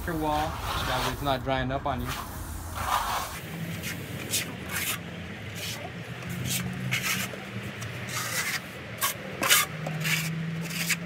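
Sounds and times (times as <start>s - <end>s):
trowel scraping on wall: 0.2s - 1.4s, 2.0s - 11.0s.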